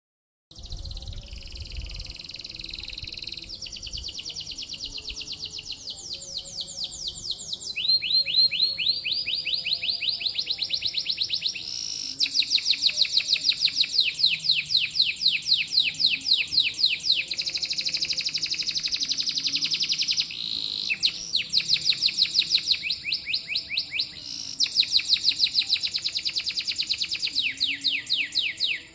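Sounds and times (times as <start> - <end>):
canary singing rapid trills: 0.6 - 28.9.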